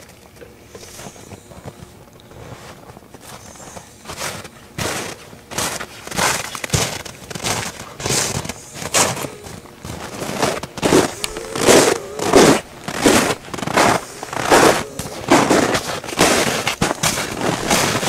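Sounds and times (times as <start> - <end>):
footsteps crunching in snow: 0.8 - 18.0.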